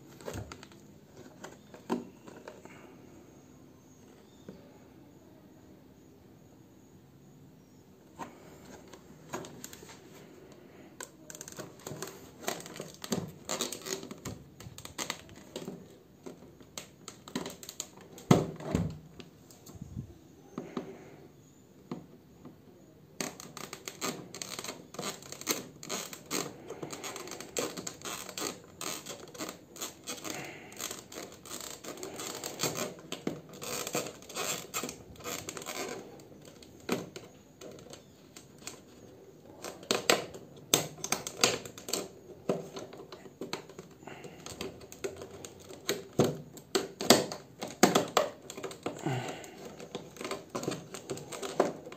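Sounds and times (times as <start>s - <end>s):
stiff plastic crackling: 0.0s - 3.0s, 8.1s - 19.9s, 23.1s - 51.9s.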